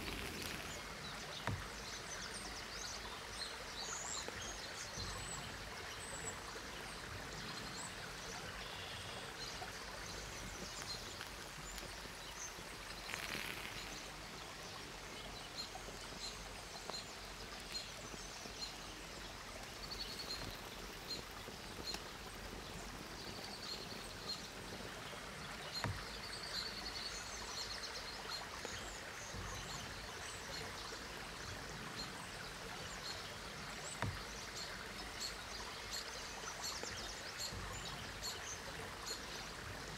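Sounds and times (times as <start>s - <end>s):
small birds chirping: 0.0s - 39.9s
stream trickling: 0.0s - 39.9s.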